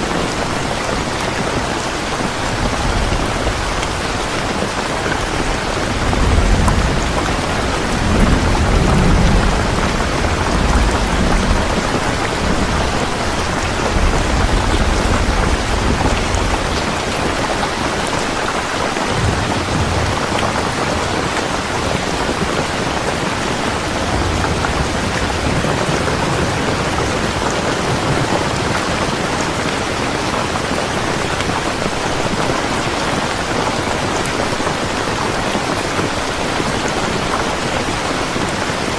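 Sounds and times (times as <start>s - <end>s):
steady rain: 0.0s - 38.9s
thunder rumbling: 0.1s - 38.5s.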